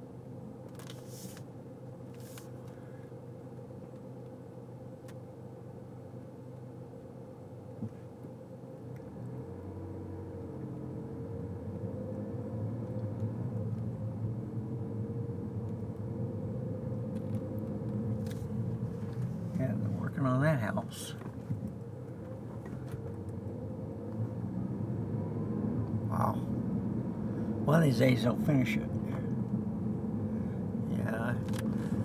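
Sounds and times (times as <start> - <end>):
engine and road hum in car: 0.0 - 32.0.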